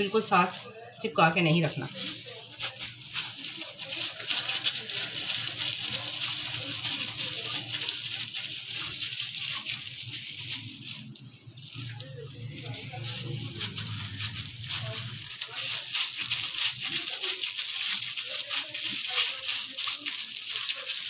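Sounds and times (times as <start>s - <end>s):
dough squishing: 0.0s - 21.0s
plastic glove crinkling: 0.0s - 21.0s.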